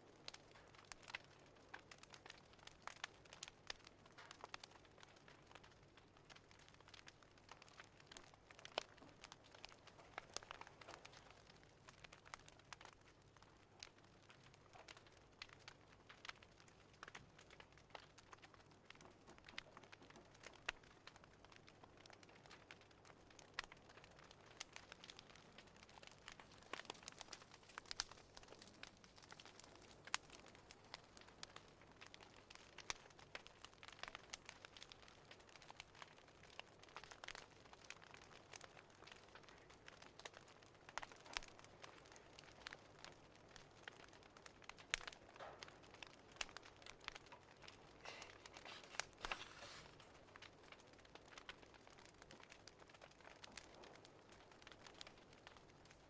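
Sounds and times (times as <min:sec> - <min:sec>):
faint wood fire crackling: 0:00.0 - 0:56.0.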